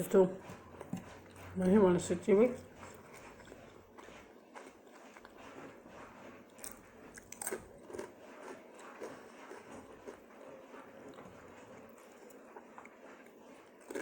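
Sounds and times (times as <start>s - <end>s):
person chewing food: 0.4s - 1.8s, 2.4s - 14.0s.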